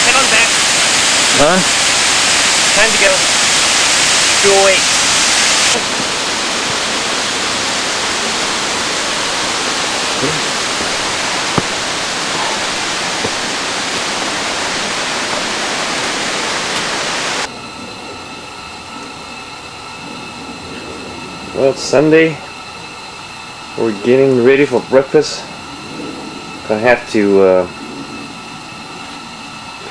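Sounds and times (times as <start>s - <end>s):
faint steady tones: 0.0s - 29.9s
steady low hum: 0.0s - 29.9s
waterfall rushing: 0.0s - 29.9s.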